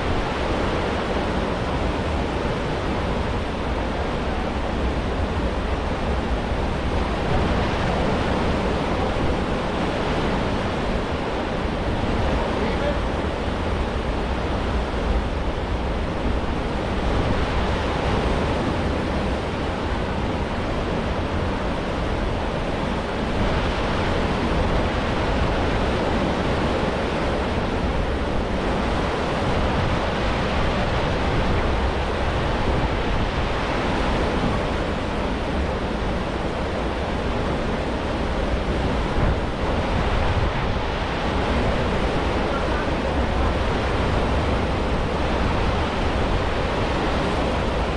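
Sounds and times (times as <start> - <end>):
churning white water: 0.0 - 47.9
wind on microphone: 0.0 - 47.9.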